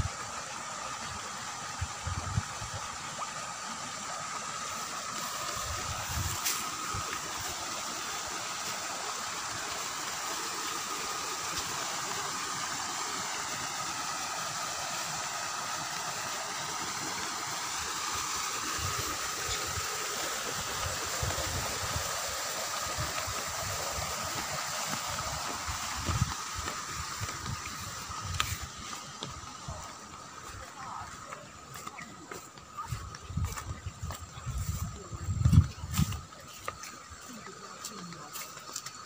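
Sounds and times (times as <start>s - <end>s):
water rushing from pipes: 0.0s - 39.0s.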